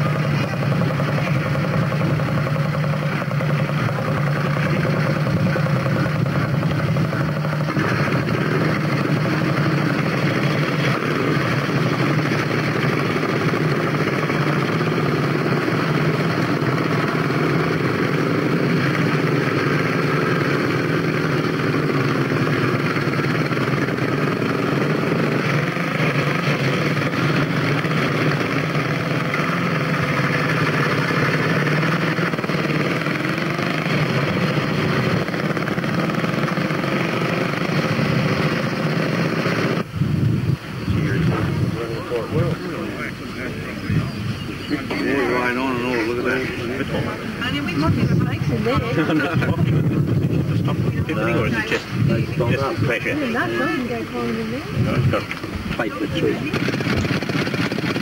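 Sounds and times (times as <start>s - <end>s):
motorcycle engines idling: 0.0s - 58.0s.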